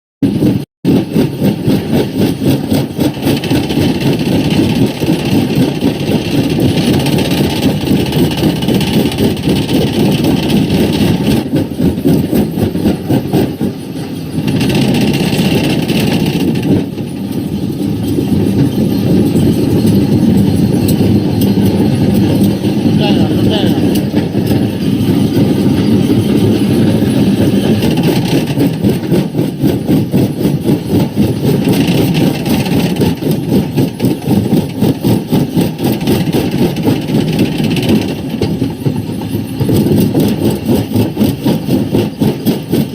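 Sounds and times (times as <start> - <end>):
rock crusher running: 0.2 - 42.9.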